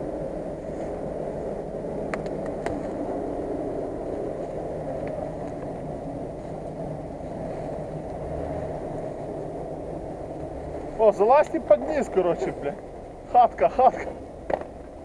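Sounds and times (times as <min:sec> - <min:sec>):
vehicle engine running at low speed: 0:00.0 - 0:15.0.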